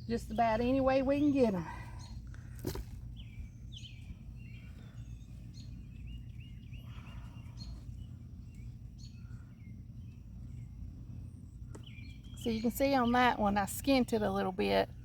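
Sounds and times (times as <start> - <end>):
low steady rumble: 0.0 - 15.0
songbirds chirping: 0.0 - 15.0.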